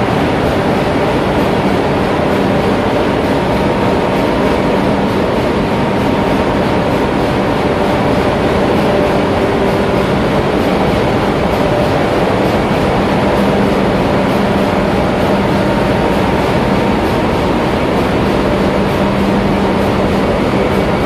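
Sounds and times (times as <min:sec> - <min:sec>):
engine room machinery noise: 0:00.0 - 0:21.0
low hum: 0:00.0 - 0:21.0.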